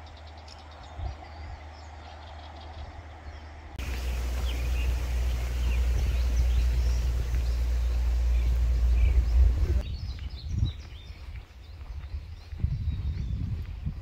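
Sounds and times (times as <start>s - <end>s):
small birds chirping: 0.0s - 14.0s
wind buffeting microphone: 2.6s - 14.0s.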